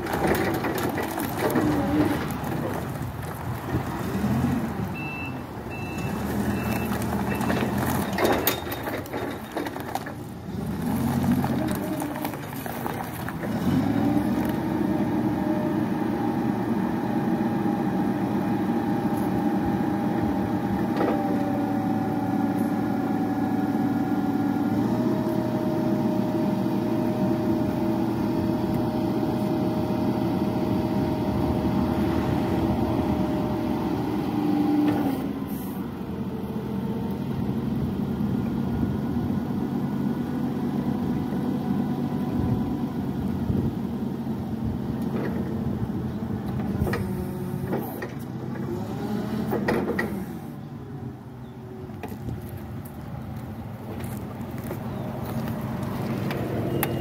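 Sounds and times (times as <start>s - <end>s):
hydraulics whining: 0.0s - 43.6s, 45.0s - 57.0s
forklift engine running: 0.0s - 57.0s.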